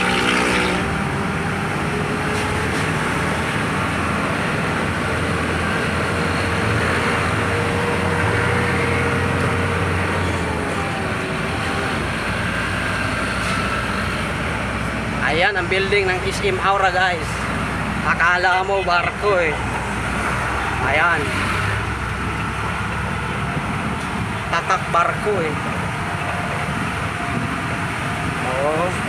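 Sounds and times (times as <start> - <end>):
road and traffic noise: 0.0 - 29.0
truck engine running: 0.0 - 29.0.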